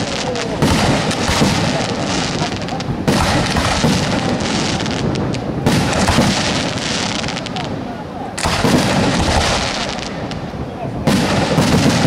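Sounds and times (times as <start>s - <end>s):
firecrackers crackling barrage: 0.0s - 12.0s
heavy firework blasts: 0.0s - 12.0s.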